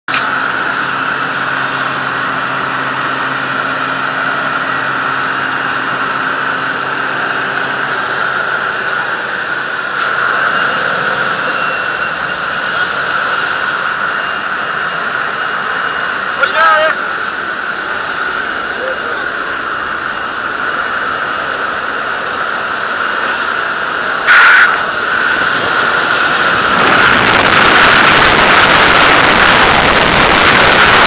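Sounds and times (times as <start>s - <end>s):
plane engine drone in cabin: 0.1s - 31.0s.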